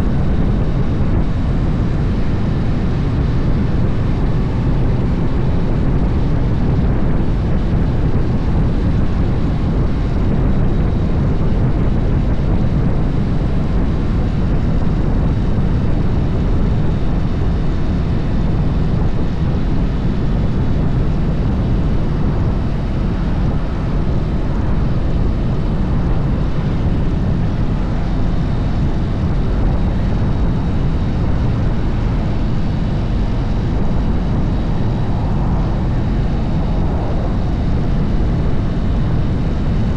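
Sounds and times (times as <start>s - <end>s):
motorcycle engine at speed: 0.0s - 39.9s
wind rushing over microphone: 0.0s - 39.9s.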